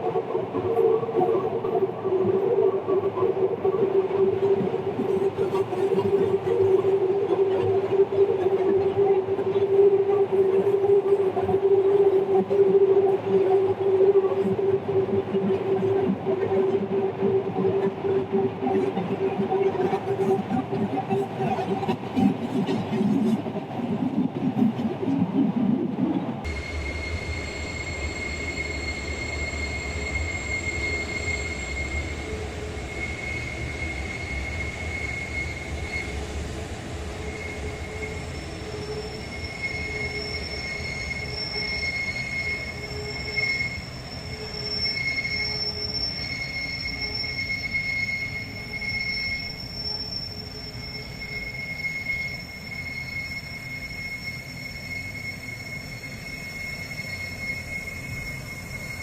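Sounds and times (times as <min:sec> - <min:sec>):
low rumble of train: 0:00.0 - 0:59.0
train wheels squealing on rails: 0:00.0 - 0:59.0.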